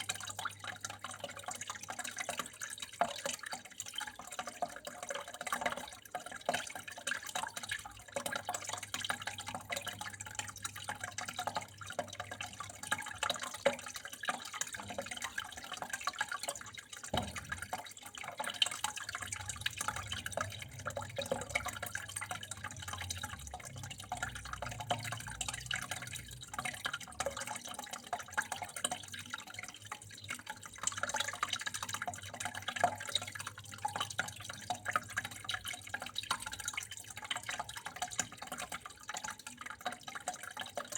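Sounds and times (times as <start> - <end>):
water running and trickling: 0.0 - 40.9.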